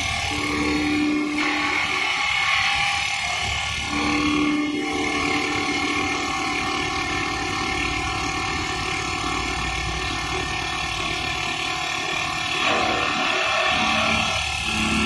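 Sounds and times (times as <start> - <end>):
lathe motors whining: 0.0 - 15.0.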